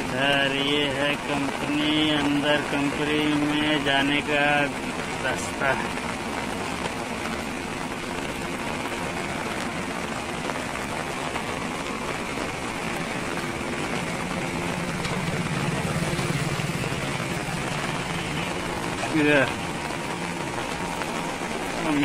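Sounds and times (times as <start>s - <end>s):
heavy rain falling: 0.0s - 22.0s
low mechanical hum: 0.0s - 22.0s.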